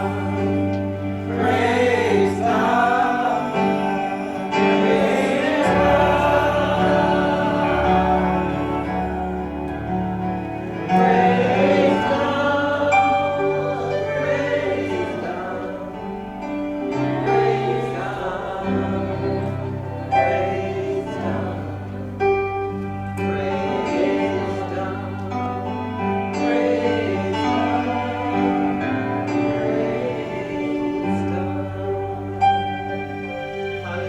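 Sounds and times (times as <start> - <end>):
held chords and bass notes: 0.0 - 33.8
voices singing worship chorus: 0.0 - 34.0.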